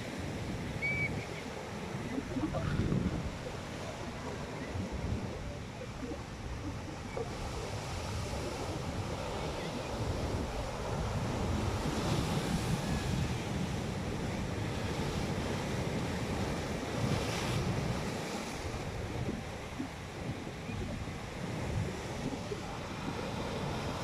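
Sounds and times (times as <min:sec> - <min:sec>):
sea waves washing on shore: 0:00.0 - 0:24.0
wind buffeting microphone: 0:00.2 - 0:23.9.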